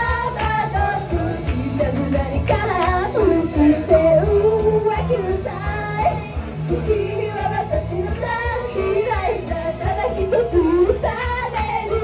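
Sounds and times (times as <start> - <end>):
pop backing track with beat: 0.0 - 12.0
woman singing into a microphone: 0.0 - 12.0.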